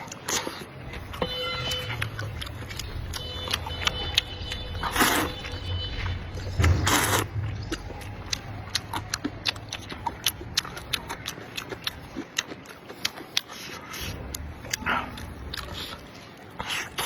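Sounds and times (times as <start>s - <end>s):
person chewing with wet mouth clicks: 1.6s - 17.0s.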